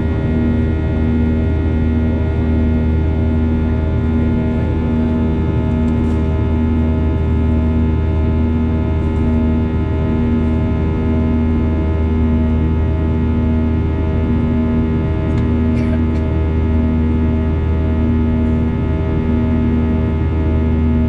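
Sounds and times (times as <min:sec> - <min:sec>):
jet engine cabin drone: 0:00.0 - 0:21.0.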